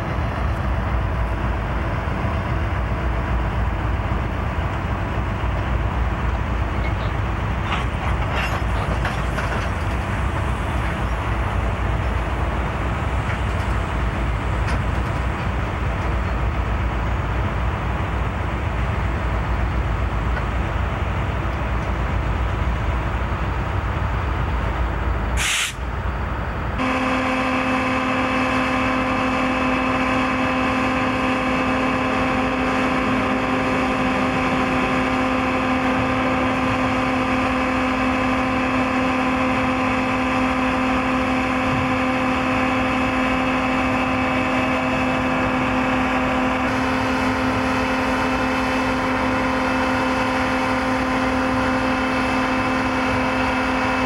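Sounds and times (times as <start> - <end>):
train cars rumbling and hissing: 0.0 - 54.0.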